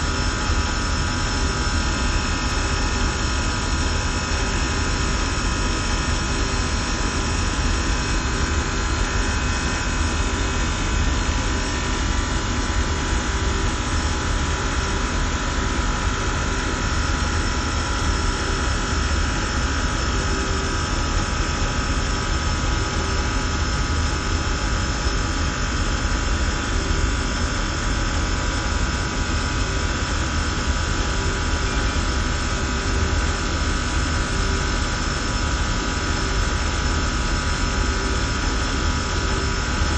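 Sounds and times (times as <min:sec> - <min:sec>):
hvac machinery roaring: 0:00.0 - 0:39.9.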